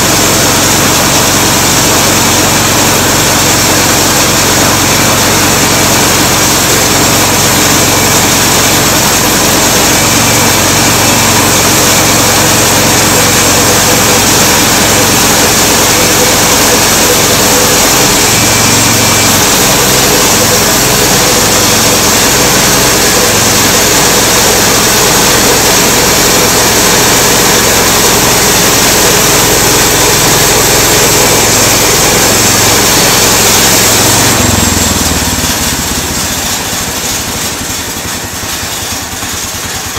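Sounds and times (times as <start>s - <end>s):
small gasoline engine running: 0.0s - 39.9s
band blade sawing log: 0.1s - 39.9s.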